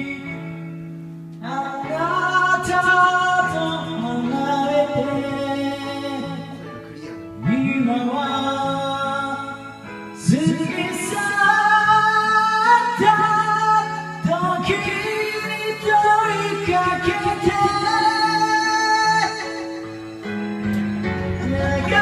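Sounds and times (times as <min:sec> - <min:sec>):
instrumental backing track: 0:00.0 - 0:22.0
person singing karaoke: 0:00.0 - 0:22.0.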